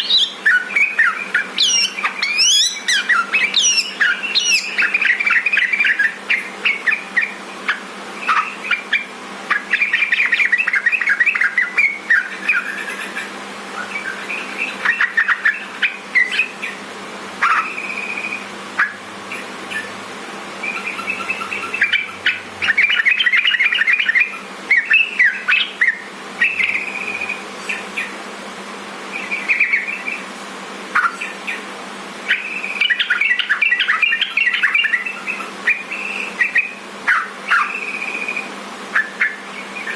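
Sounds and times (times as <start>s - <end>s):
bird chattering song: 0.0s - 16.8s, 20.6s - 28.2s, 29.2s - 30.3s, 32.3s - 39.9s
faint steady hum: 0.0s - 39.9s.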